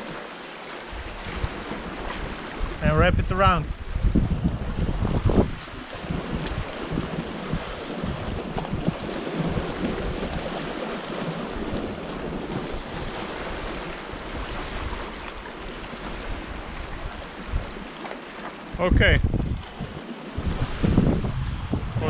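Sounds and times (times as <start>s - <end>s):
small waves on rocky shore: 0.0s - 21.3s
wind gusting on microphone: 0.9s - 18.0s, 18.6s - 22.0s.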